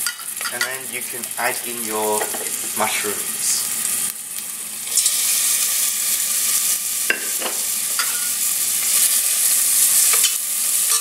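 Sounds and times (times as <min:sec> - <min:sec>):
mushrooms sizzling in hot oil: 0:00.0 - 0:11.0.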